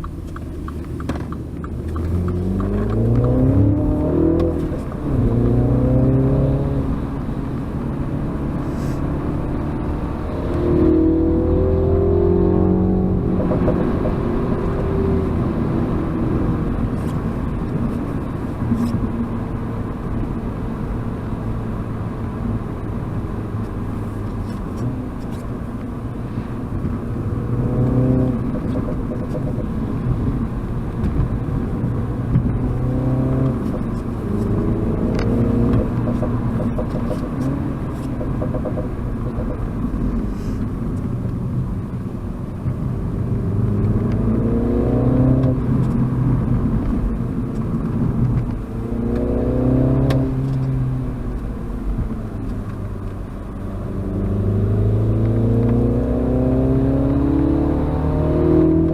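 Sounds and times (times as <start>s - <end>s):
car engine accelerating: 0.0s - 58.9s
road and tyre noise: 0.0s - 58.9s.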